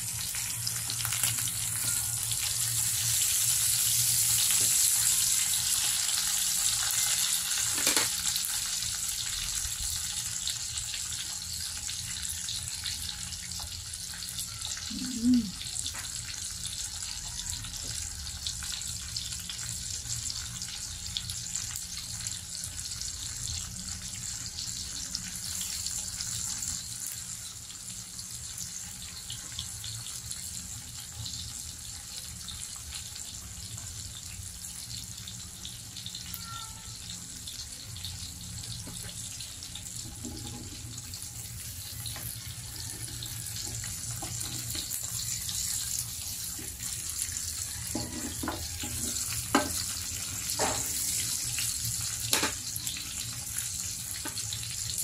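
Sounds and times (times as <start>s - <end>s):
meat sizzling in a grill pan: 0.0s - 55.0s.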